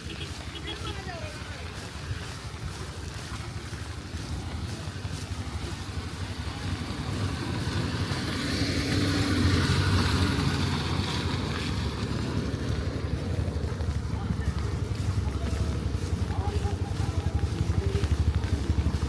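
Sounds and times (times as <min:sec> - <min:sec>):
vehicle passing on wet road: 0:00.0 - 0:19.0.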